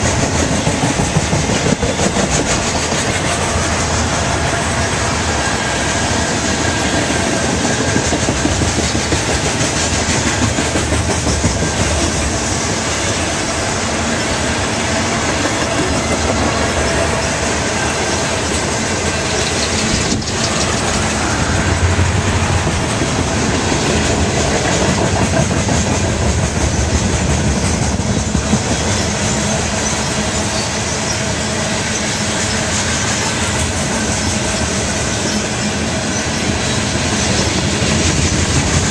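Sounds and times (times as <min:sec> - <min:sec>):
freight train wheels clattering: 0:00.0 - 0:38.9.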